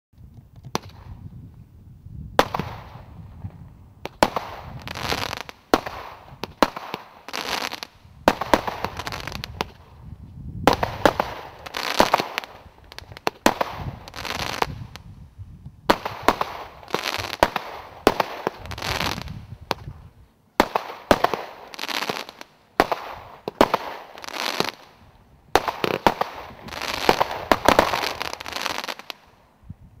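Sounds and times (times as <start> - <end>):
crackling firework stars: 0.2 - 1.7, 2.3 - 29.6
firework bangs: 2.4 - 10.0, 10.6 - 15.0, 15.9 - 20.0, 20.6 - 29.3.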